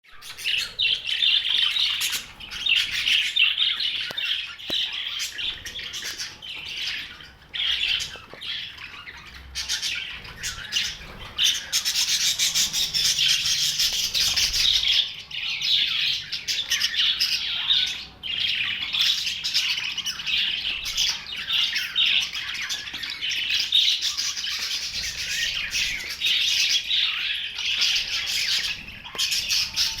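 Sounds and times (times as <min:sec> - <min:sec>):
bird squawks: 0:00.1 - 0:30.0
budgerigars chattering and chirping: 0:00.2 - 0:30.0.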